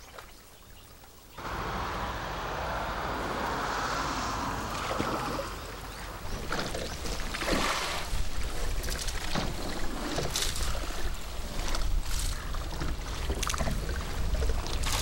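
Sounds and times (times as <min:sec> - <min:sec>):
water splashing around rowboat: 0:01.4 - 0:15.0.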